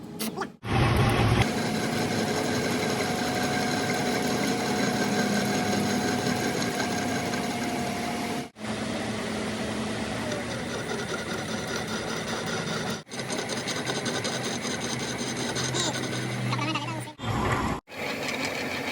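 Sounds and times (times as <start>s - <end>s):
machine motor humming: 0.6s - 18.9s.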